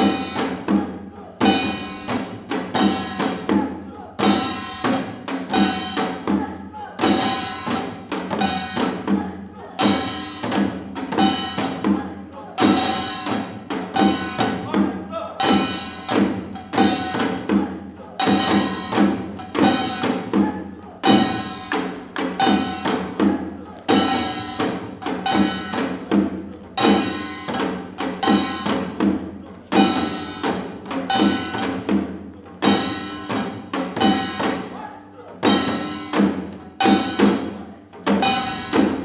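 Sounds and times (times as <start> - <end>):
traditional percussion music: 0.0 - 39.0.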